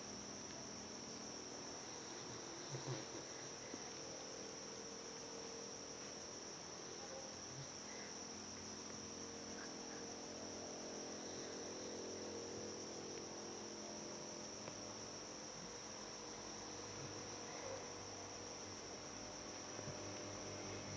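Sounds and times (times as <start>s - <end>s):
faint low hum: 0.0s - 20.9s.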